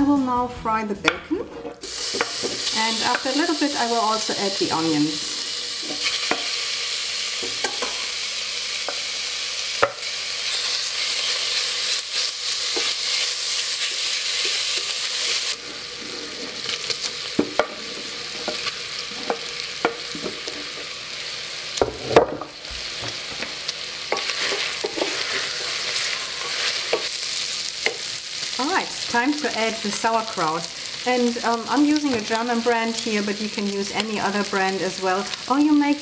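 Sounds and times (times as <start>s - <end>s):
bacon sizzling in a pot: 1.3s - 36.0s.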